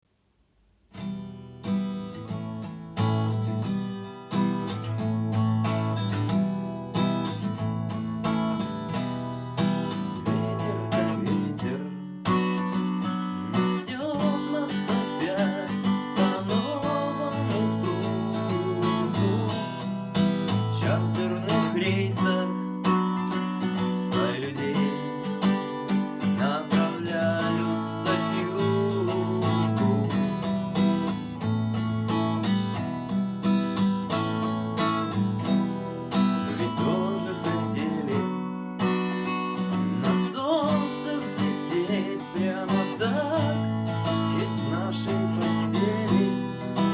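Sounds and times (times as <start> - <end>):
acoustic guitar strumming: 0.9 - 46.9.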